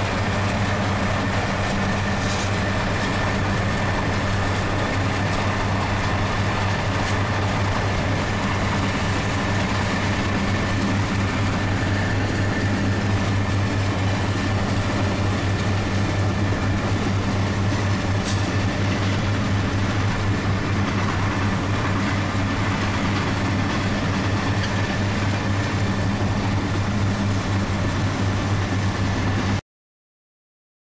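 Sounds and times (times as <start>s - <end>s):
diesel locomotive running: 0.0s - 29.6s.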